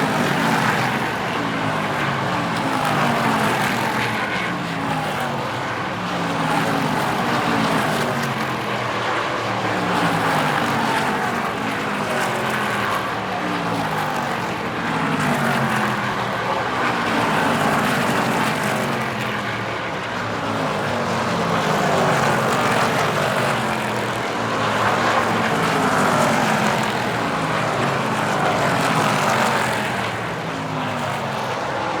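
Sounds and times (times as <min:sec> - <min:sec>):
race truck engines passing: 0:00.0 - 0:32.0.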